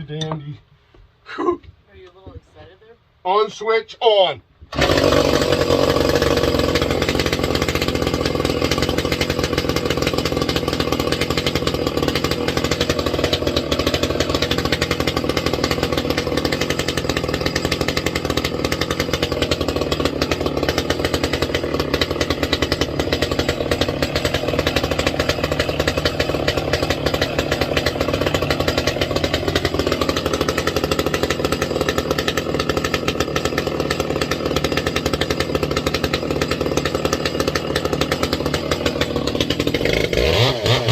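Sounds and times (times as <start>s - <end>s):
chainsaw running: 4.7s - 40.9s.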